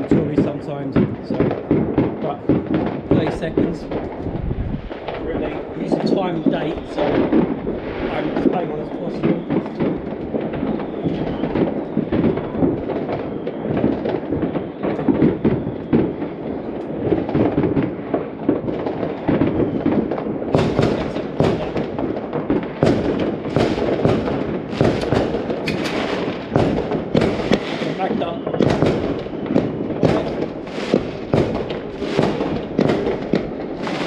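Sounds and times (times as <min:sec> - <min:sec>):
fireworks crackling and popping: 0:00.0 - 0:34.0
loud sharp firework bangs: 0:00.0 - 0:34.0
low rumbling firework bangs: 0:00.0 - 0:34.0.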